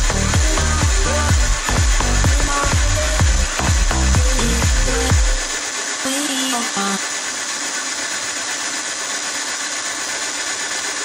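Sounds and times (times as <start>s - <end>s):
boring bar cutting metal: 0.0s - 11.0s.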